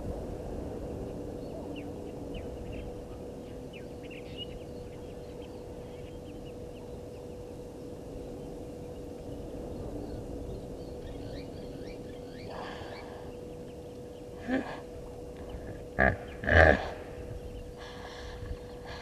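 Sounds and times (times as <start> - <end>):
constant low hum: 0.0 - 19.0
outdoor background rumble: 0.0 - 19.0.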